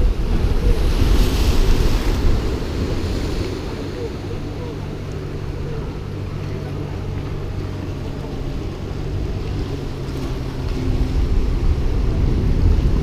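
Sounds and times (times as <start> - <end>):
surf washing on rocks: 0.0 - 13.0
wind buffeting microphone: 0.0 - 13.0.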